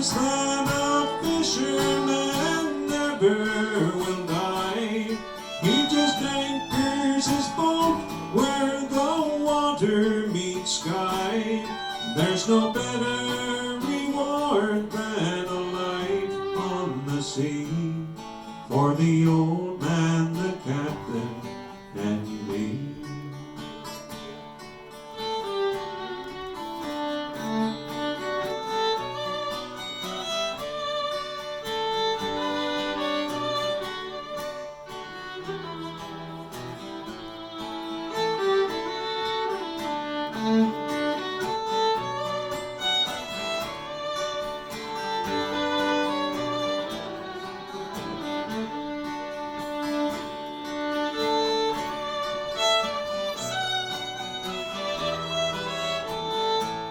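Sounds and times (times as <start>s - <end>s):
acoustic guitar: 0.0s - 56.9s
fiddle playing: 0.0s - 56.9s.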